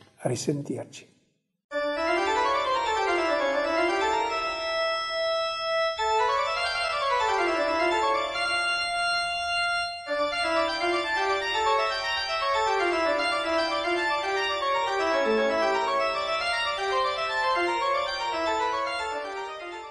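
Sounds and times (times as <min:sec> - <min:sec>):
organ music: 0:01.7 - 0:19.9.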